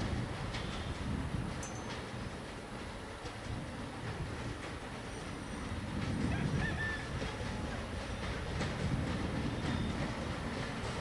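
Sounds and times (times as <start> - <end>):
diesel locomotive rumbling: 0.0 - 11.0
wheels clicking over rails: 0.0 - 11.0.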